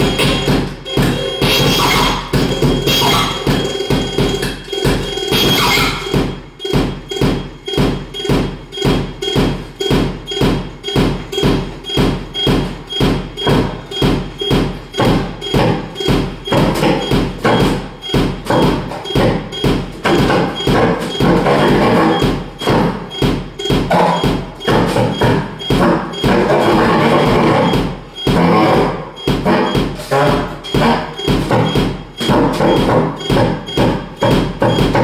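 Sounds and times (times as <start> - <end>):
electronic percussive pulse: 0.0 - 35.0.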